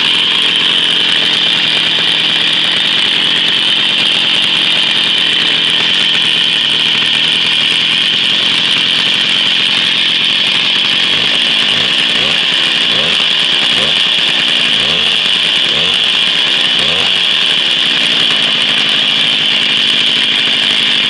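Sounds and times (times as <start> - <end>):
two-stroke moped engine running: 0.0 - 21.0.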